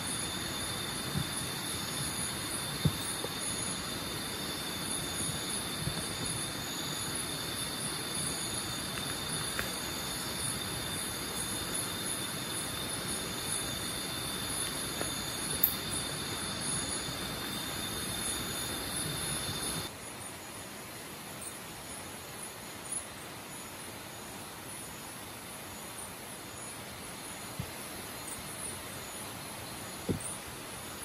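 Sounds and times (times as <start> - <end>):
insects trilling: 0.0 - 20.4, 21.4 - 31.0.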